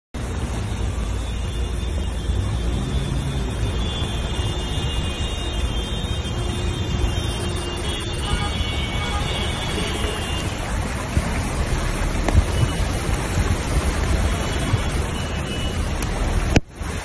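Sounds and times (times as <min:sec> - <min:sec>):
car driving through water: 0:00.2 - 0:17.0.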